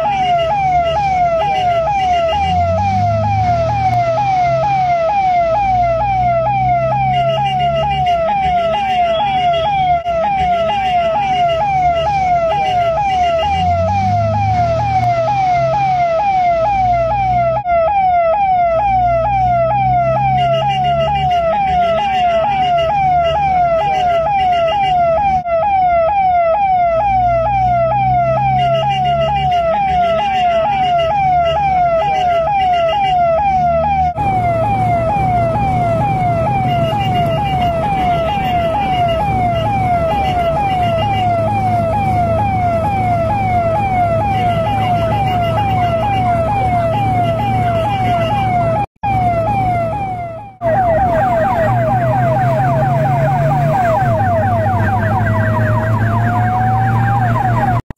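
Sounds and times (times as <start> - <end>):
ambulance siren wailing: 0.0 - 57.9.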